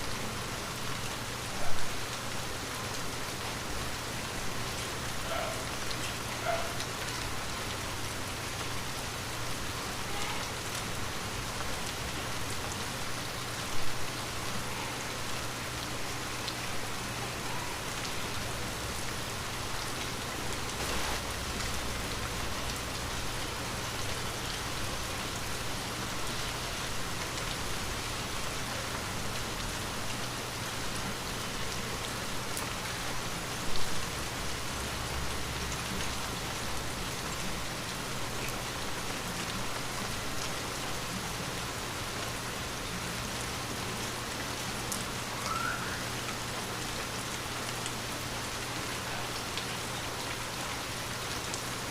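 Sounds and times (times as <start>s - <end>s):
light rain falling: 0.0s - 51.9s.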